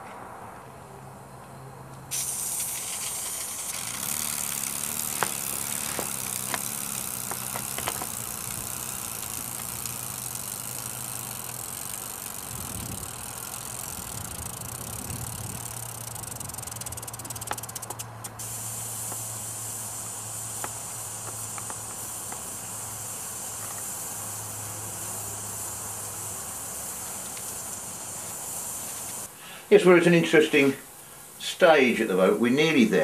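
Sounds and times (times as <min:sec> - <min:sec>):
model steam locomotive hiss: 0:02.1 - 0:32.4.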